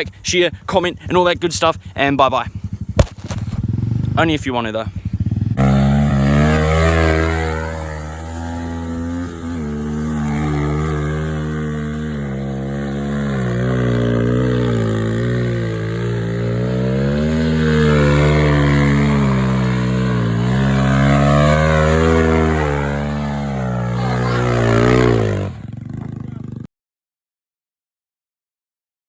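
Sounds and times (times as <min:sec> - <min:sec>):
motorbike engine revving: 0:00.0 - 0:26.7.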